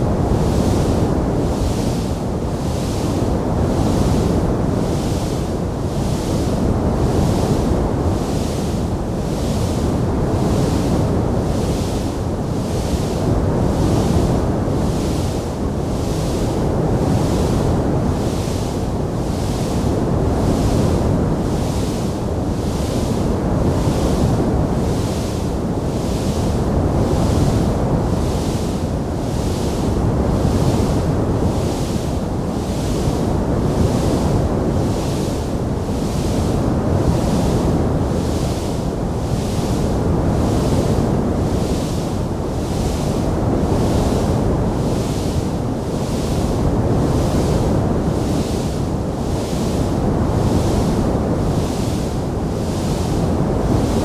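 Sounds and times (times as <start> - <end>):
low rushing noise with hiss: 0.0 - 54.0.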